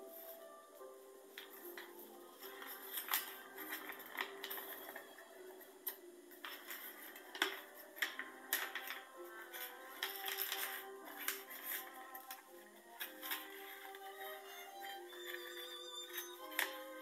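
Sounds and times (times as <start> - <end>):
paper crinkling and rustling: 0.0 - 17.0
quiet background music: 0.0 - 17.0.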